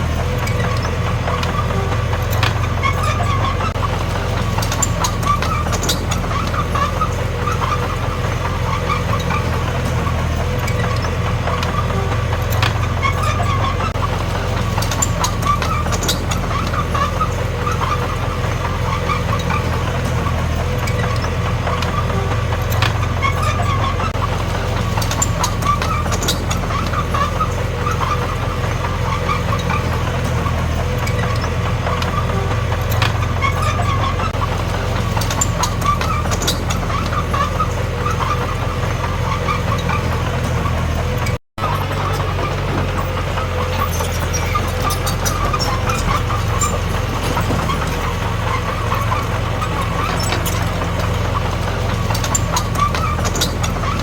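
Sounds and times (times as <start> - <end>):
bulldozer diesel engine running: 0.0 - 54.0
sharp clanks and clicks: 0.0 - 54.0.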